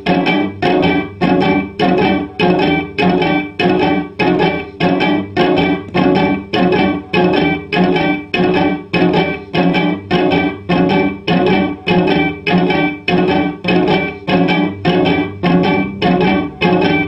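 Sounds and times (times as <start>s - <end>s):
plucked cello notes: 0.0s - 17.0s.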